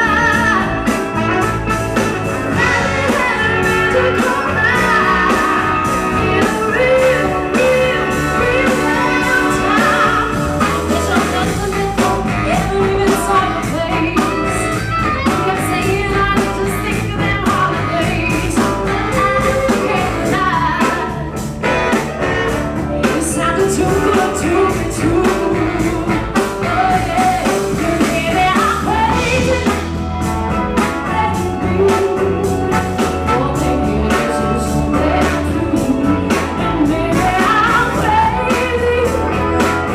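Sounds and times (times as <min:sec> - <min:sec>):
guitar: 0:00.0 - 0:39.9
steady drum beat: 0:00.0 - 0:39.9
person singing: 0:02.4 - 0:39.9.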